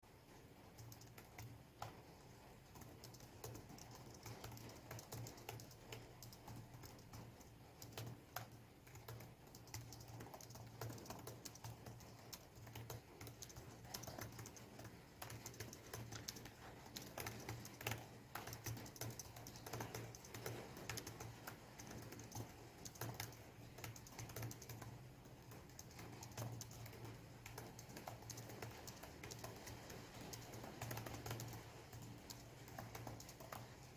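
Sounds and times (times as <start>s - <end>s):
fast typing on laptop keyboard: 0.0s - 33.9s
rain: 0.3s - 33.9s.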